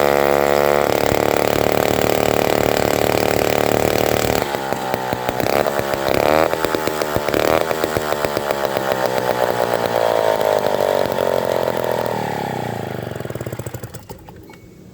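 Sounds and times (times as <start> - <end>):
chainsaw engine cutting wood: 0.0 - 14.4.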